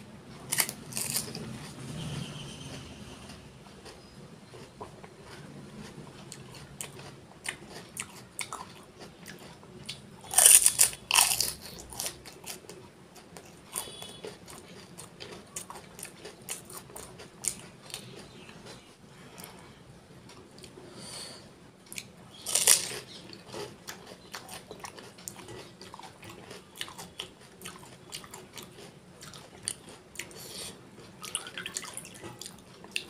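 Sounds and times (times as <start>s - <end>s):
crunchy food chewing: 0.3s - 19.6s, 21.9s - 33.0s.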